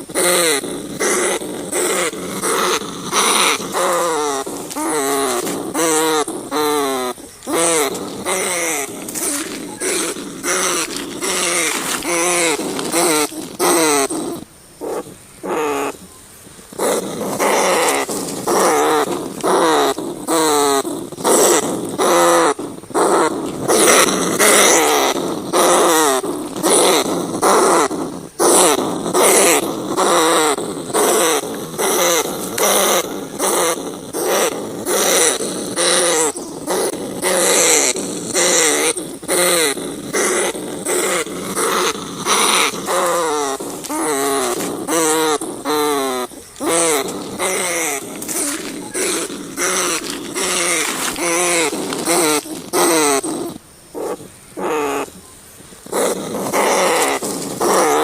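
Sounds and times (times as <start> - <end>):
rats squealing: 0.0 - 55.2, 55.8 - 58.0.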